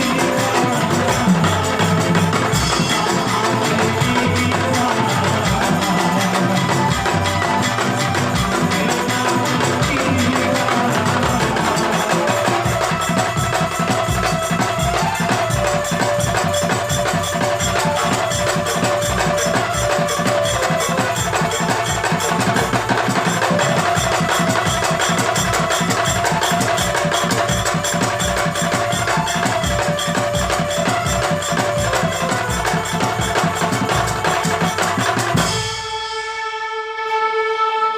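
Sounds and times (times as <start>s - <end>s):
music with woody percussion beat: 0.0s - 36.6s.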